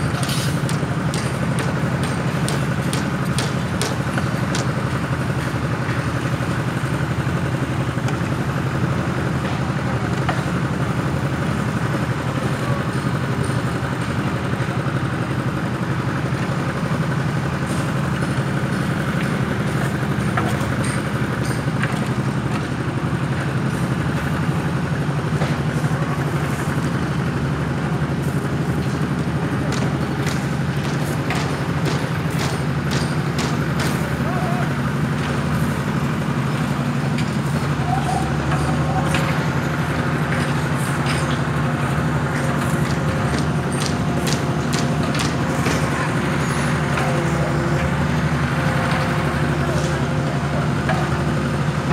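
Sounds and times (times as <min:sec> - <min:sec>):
machinery engines droning: 0:00.0 - 0:51.9.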